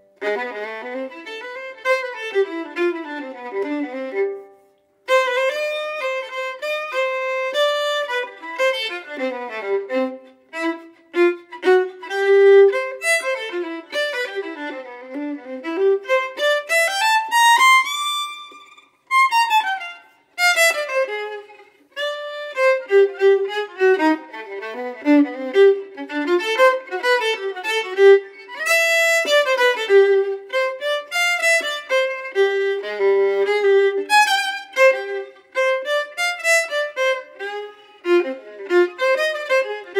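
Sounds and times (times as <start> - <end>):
violin playing quick melody: 0.1 - 39.9.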